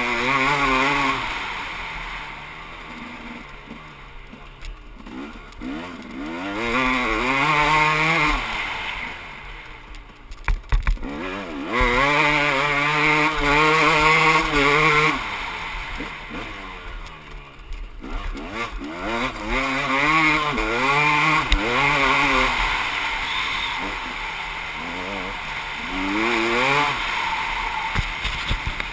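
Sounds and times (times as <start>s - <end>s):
motocross bike engine revving: 0.0s - 28.9s.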